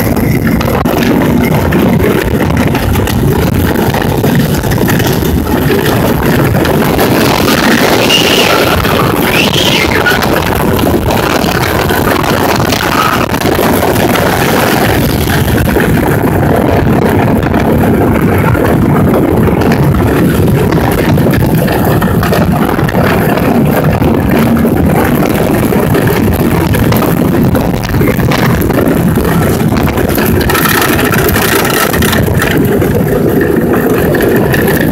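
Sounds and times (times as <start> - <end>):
roller coaster rumbling on track: 0.0 - 34.9
wind rushing past microphone: 0.0 - 34.9.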